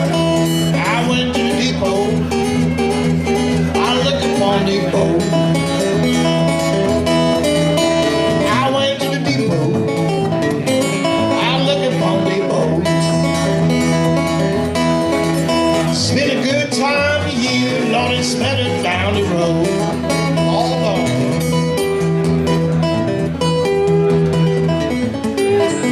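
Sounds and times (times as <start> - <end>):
acoustic guitar blues tune: 0.0 - 25.9.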